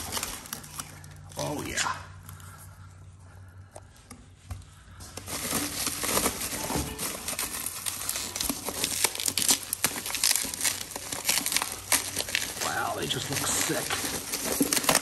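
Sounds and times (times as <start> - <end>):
bubble wrap crinkling: 0.0 - 2.6, 4.7 - 15.0.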